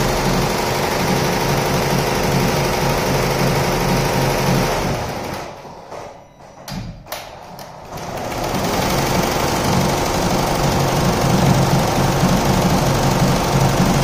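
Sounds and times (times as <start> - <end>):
embroidery machine stitching: 0.0 - 5.6, 7.7 - 14.0.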